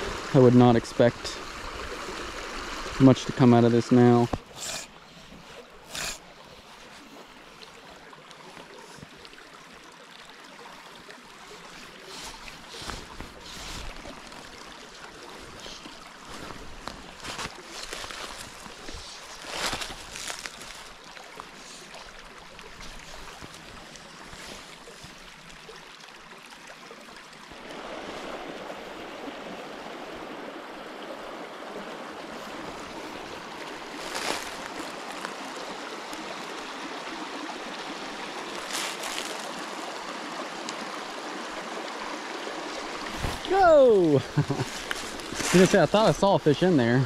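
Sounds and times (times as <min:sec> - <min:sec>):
creek running over rocks: 0:00.0 - 0:47.0.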